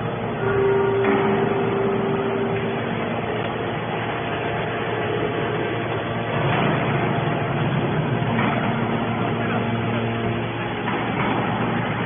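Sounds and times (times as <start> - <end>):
scrap-metal baler running: 0.0 - 12.0
steady tone: 0.0 - 12.0.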